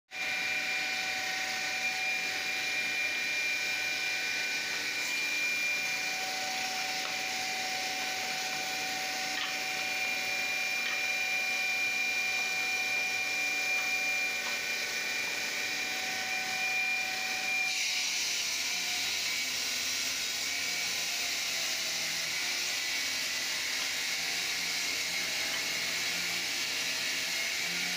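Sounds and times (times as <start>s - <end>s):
tile saw whine: 0.1s - 27.9s.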